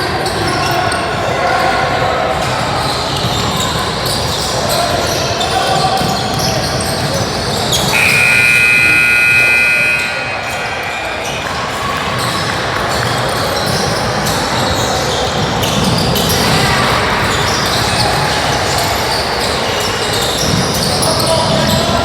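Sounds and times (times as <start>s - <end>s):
voices echoing in hall: 0.0s - 22.0s.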